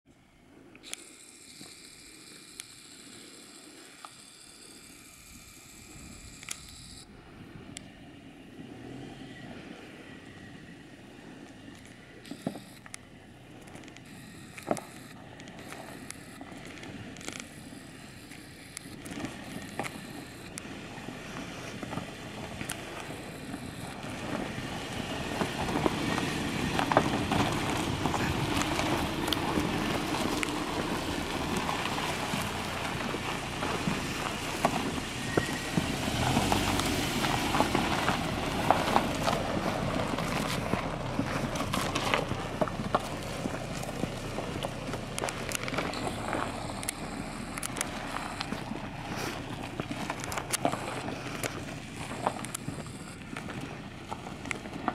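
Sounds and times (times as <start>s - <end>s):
car engine running: 0.9s - 54.9s
tyres crunching gravel: 8.6s - 54.9s.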